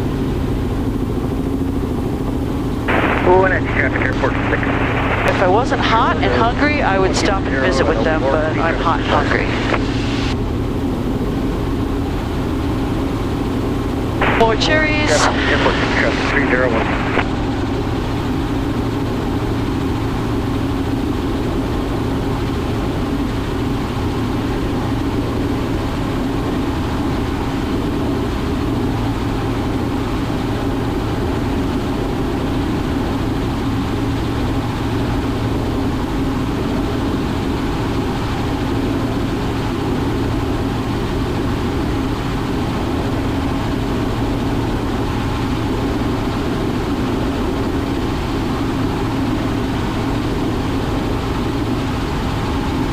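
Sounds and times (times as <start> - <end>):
helicopter cockpit drone: 0.0 - 52.9.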